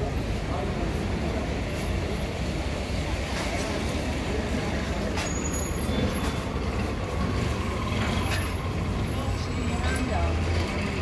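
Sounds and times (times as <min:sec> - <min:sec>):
vehicle traffic rumble: 0:00.0 - 0:11.0.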